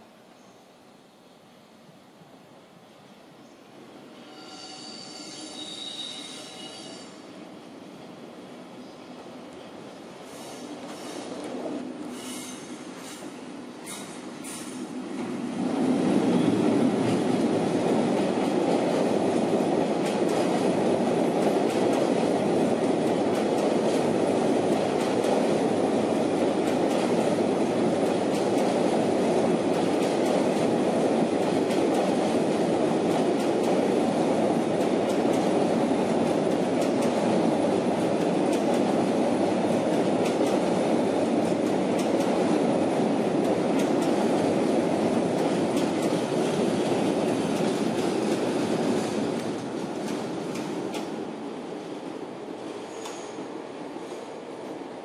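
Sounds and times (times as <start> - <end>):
steel wheels rumbling on rail: 10.1 - 55.0.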